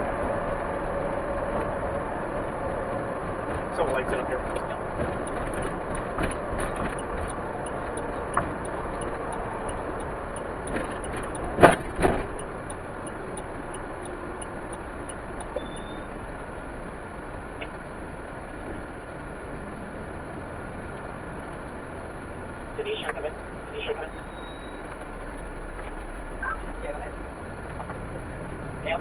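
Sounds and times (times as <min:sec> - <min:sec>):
vehicle road and engine noise: 0:00.0 - 0:29.0.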